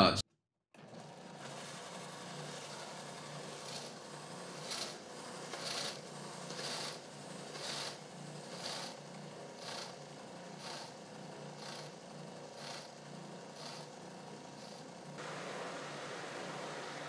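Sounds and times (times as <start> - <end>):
sander running: 0.8 - 17.0.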